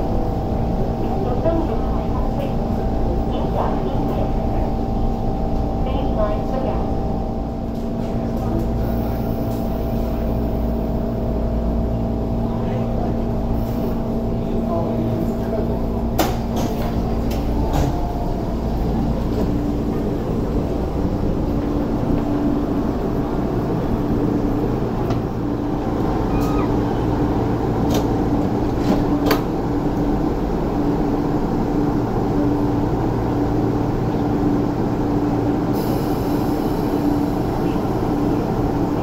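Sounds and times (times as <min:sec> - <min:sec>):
electric train humming: 0:00.0 - 0:39.0.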